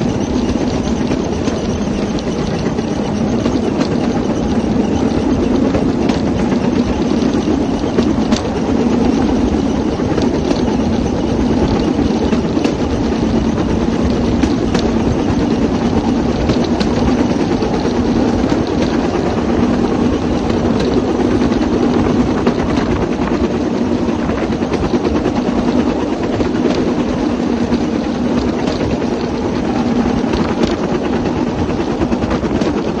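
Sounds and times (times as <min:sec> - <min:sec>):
clicks and rattles: 0:00.0 - 0:33.0.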